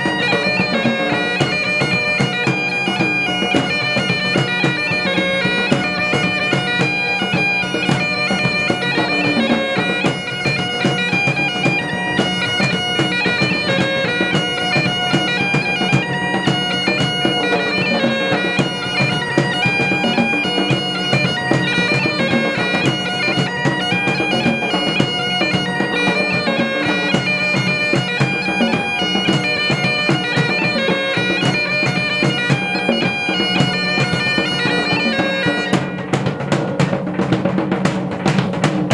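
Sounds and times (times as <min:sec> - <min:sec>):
bagpipes playing a tune: 0:00.0 - 0:36.7.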